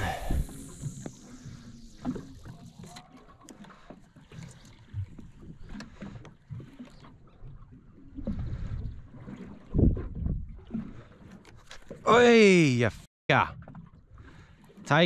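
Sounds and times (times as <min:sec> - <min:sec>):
water lapping against boat hull: 0:00.1 - 0:12.7, 0:13.3 - 0:15.0.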